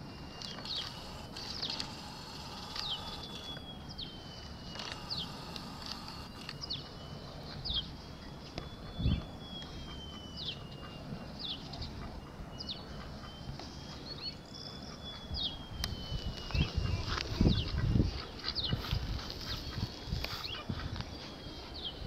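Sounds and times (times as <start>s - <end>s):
small birds chirping: 0.0s - 22.0s
thin high wavering tone: 0.0s - 22.0s.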